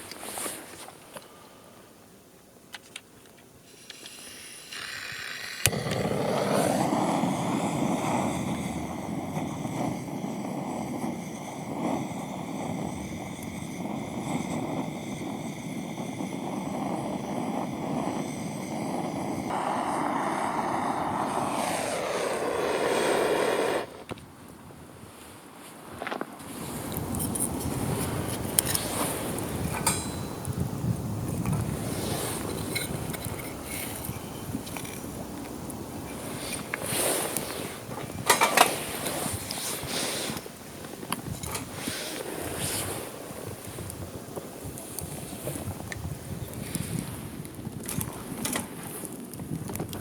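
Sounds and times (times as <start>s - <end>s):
soft hiss: 0.0s - 50.0s
roaring hiss with whistling tones: 3.6s - 50.0s.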